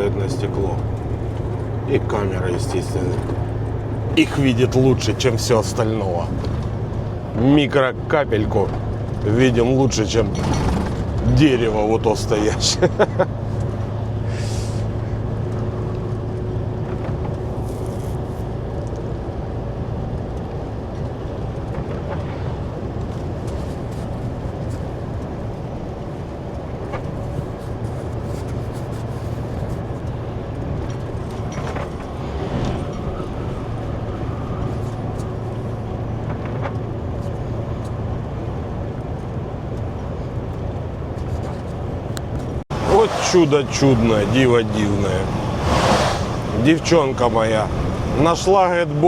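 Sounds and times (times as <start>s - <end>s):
road noise rushing: 0.0s - 49.0s
truck engine drone: 0.0s - 49.0s.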